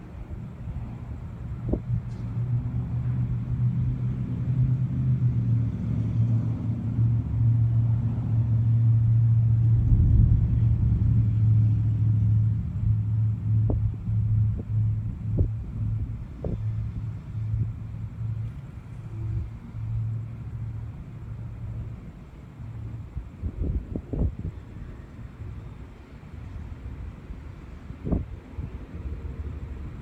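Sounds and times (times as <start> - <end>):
thunder rumbling: 0.1 - 30.0.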